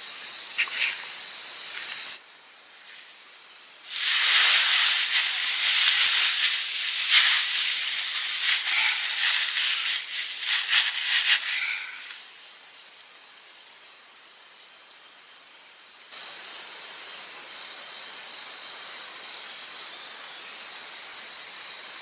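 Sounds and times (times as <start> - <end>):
crickets trilling: 0.0 - 22.0
faint forest hiss: 0.0 - 22.0.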